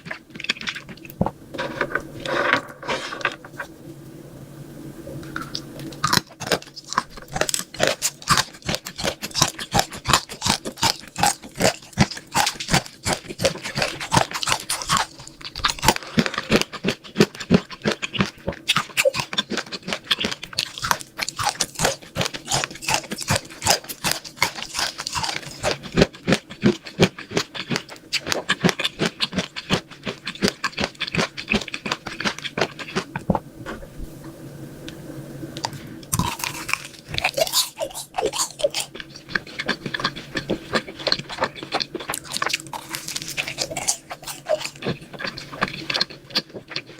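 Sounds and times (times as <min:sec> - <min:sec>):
crunching and chewing: 0:00.0 - 0:03.7, 0:05.2 - 0:33.8, 0:35.6 - 0:46.9.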